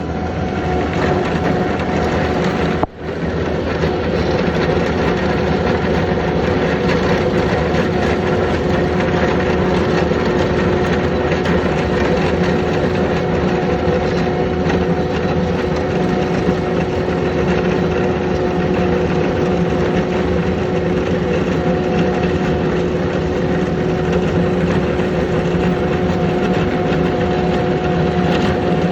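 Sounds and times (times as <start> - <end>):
machine humming steadily: 0.0 - 28.9.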